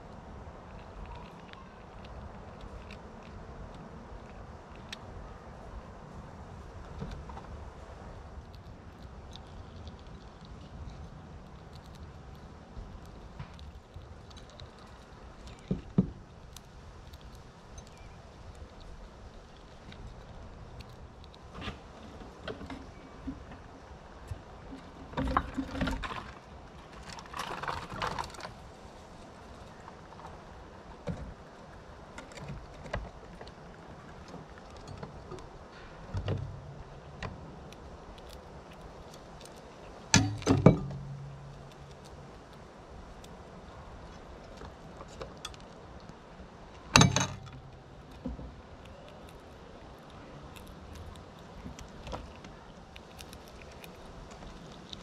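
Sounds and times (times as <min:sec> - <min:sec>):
faint clicks and ticks: 0:00.0 - 0:05.3, 0:06.6 - 0:23.6, 0:24.2 - 0:55.0
squirrels scrabbling and knocking: 0:06.4 - 0:55.0.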